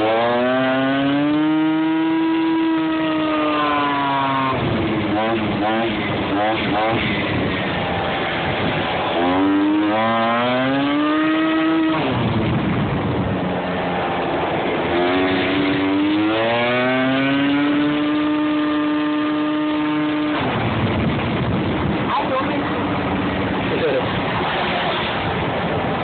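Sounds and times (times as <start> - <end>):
constant rushing noise: 0.0 - 26.0
scooter engine accelerating: 0.0 - 26.0.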